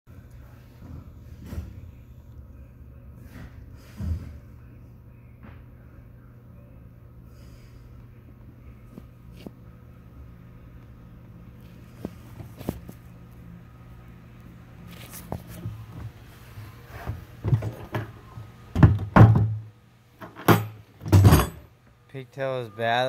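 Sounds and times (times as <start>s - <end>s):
low electrical hum: 0.1s - 23.0s.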